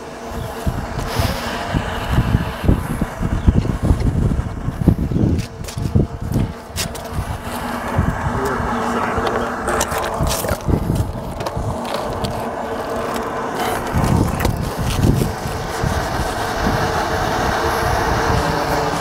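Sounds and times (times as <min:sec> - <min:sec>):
steady mechanical hum: 0:00.0 - 0:19.0
wind rumbling on microphone: 0:00.0 - 0:19.0.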